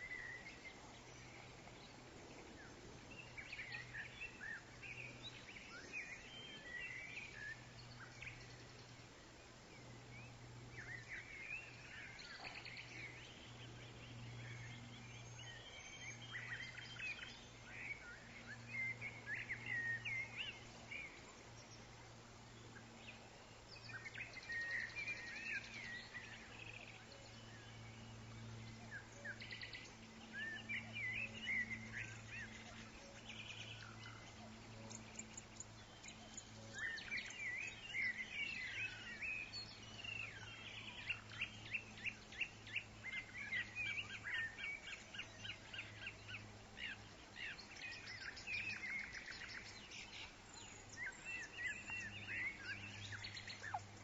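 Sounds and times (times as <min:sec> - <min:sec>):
faint low hum: 0:00.0 - 0:54.0
songbirds chirping and trilling: 0:00.0 - 0:54.0.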